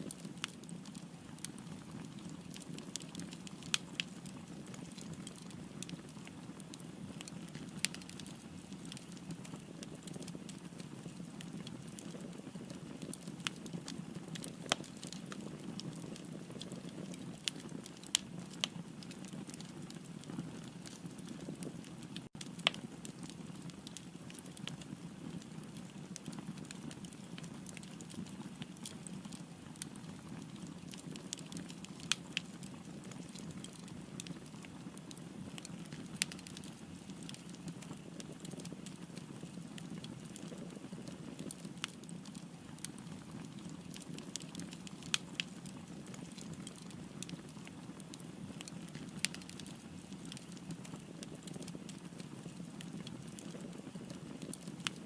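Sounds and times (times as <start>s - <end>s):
fire crackles and pops: 0.0s - 55.0s
wood fire burning: 0.0s - 55.0s.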